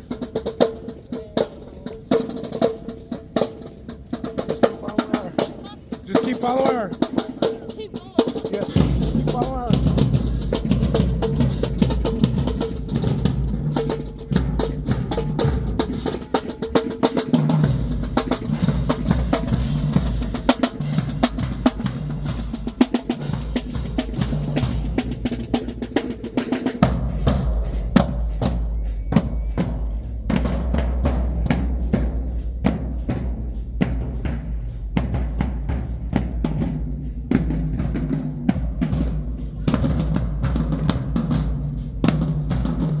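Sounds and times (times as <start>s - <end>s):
snare drum strokes and rolls: 0.0s - 43.0s.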